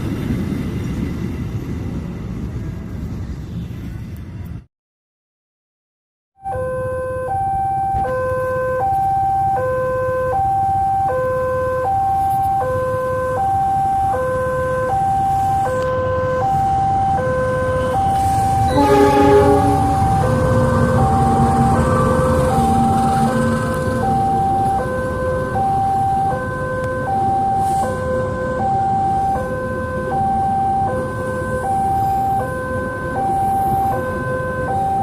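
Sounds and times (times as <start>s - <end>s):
two-tone level crossing alarm: 6.4s - 35.0s.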